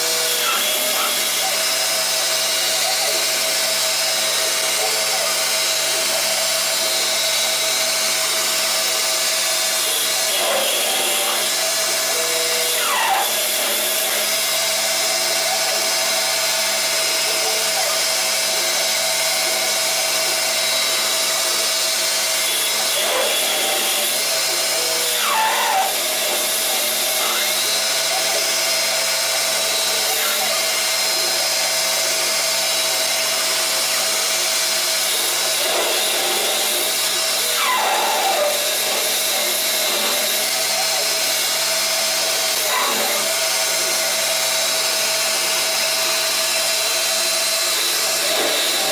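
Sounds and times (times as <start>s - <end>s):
lathe machine whine: 0.0s - 48.9s.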